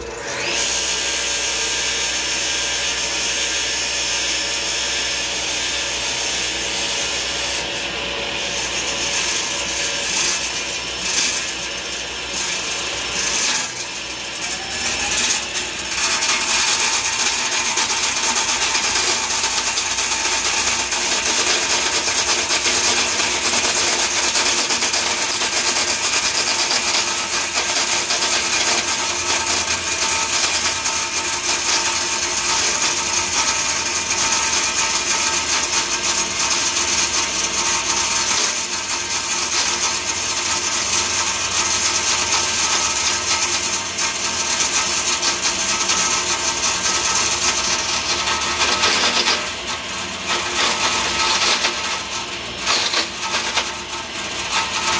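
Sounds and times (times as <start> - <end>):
table saw cutting wood: 0.0 - 54.9.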